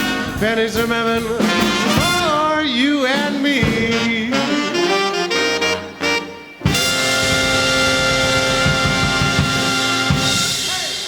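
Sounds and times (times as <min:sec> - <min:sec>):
big band horn section: 0:00.0 - 0:11.0
loud band closing chord: 0:00.0 - 0:11.0.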